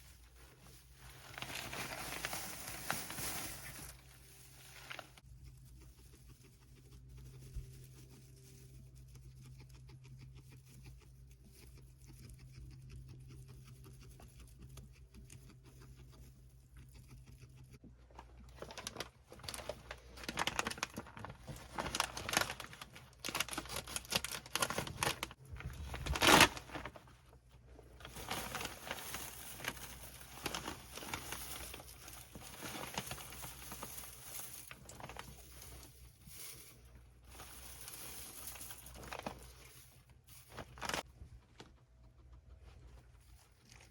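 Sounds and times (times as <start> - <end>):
guinea pigs rustling bedding: 0.0 - 43.9.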